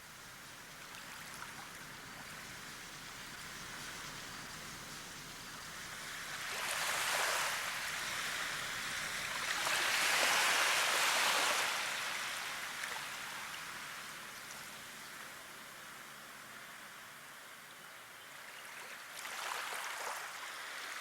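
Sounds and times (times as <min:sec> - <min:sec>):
rushing water hiss: 0:00.0 - 0:21.0.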